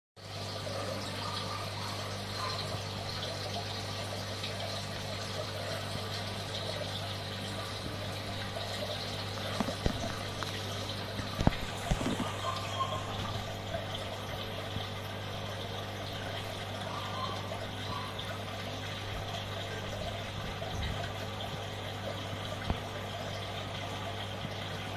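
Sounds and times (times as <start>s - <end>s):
aquarium pump humming: 0.2s - 24.9s
water trickling: 0.2s - 24.9s.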